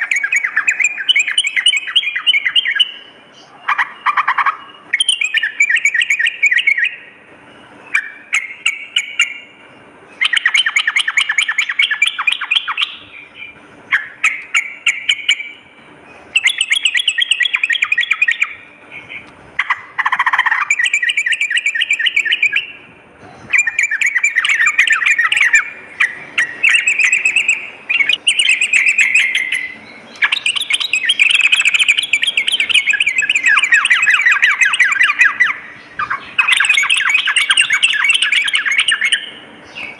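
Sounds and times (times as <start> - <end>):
bird bubbly chattering song: 0.0 - 7.2, 7.9 - 39.9.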